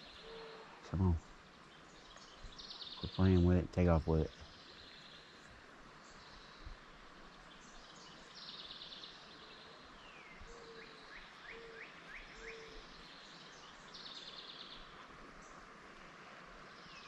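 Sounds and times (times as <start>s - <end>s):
songbirds singing: 0.0s - 15.8s, 16.5s - 17.0s.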